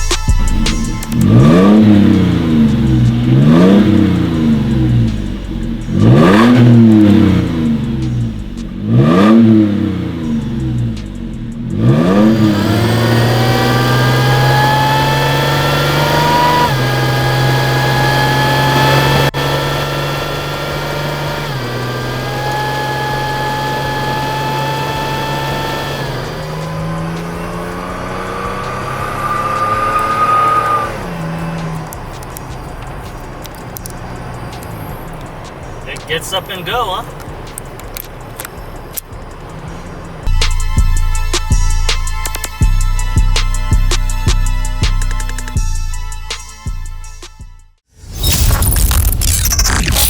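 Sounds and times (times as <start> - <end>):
engine accelerating through gears: 0.0 - 42.4
supercharged engine revving: 0.0 - 45.5, 48.0 - 50.0.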